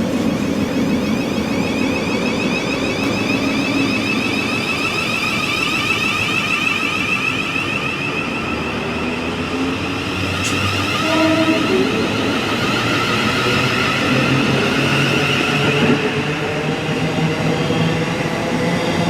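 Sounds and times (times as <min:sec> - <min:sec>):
electric train rumbling past: 0:00.0 - 0:19.0
high train whine: 0:00.0 - 0:19.0.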